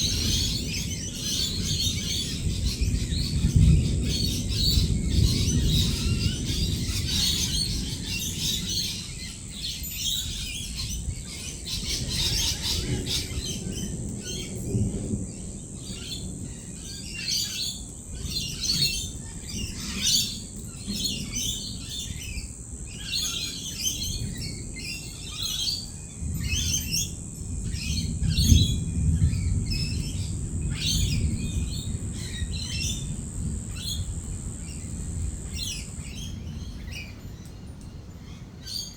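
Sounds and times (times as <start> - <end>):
birds chattering and squawking: 0.0 - 38.9.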